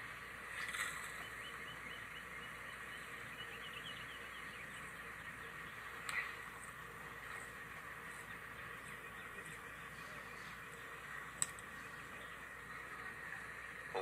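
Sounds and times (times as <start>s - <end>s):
outdoor background hiss: 0.0s - 14.0s
faint bird chirping: 0.1s - 14.0s.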